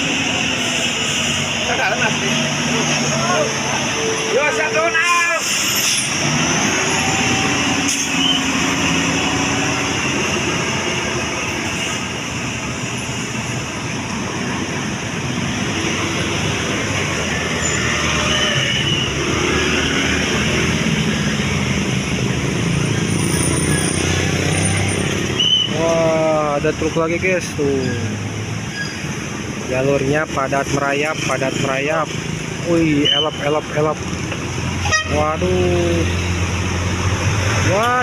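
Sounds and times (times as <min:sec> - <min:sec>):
heavy vehicles engine drone: 0:00.0 - 0:38.0
road noise: 0:00.0 - 0:38.0.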